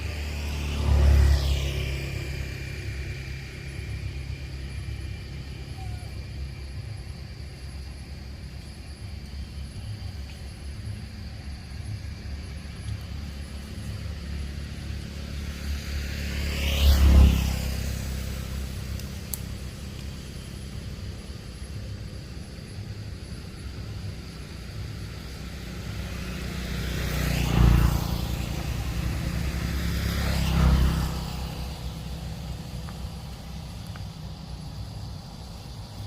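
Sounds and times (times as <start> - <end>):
low traffic rumble: 0.0 - 36.0
vehicles passing close by: 0.0 - 36.0.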